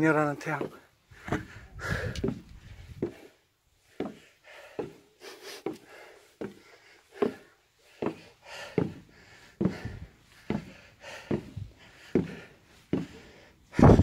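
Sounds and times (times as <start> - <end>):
boots on wooden stairs: 0.4 - 14.0.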